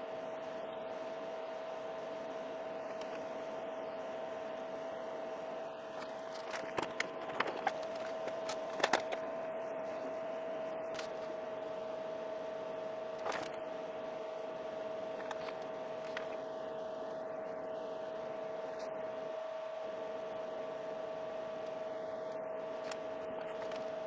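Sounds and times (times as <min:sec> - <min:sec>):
fan noise with whine: 0:00.0 - 0:24.0.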